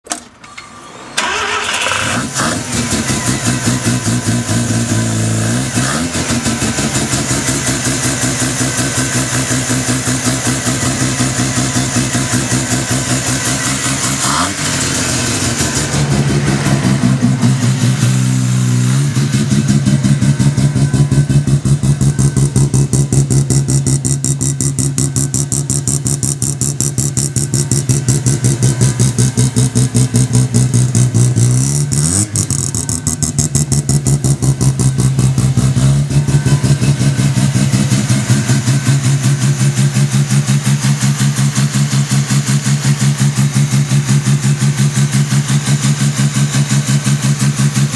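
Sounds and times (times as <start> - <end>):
car engine idling: 1.2 - 47.9.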